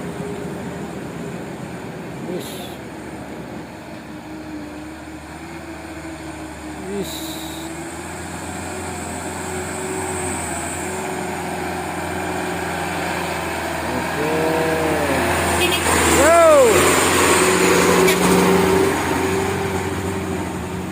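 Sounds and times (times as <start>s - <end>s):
truck engine rumbling: 0.0s - 20.9s.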